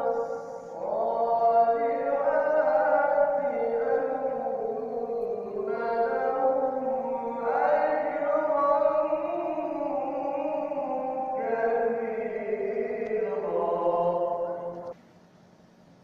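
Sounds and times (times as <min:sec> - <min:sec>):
person reciting in melodic chant: 0:00.0 - 0:14.9.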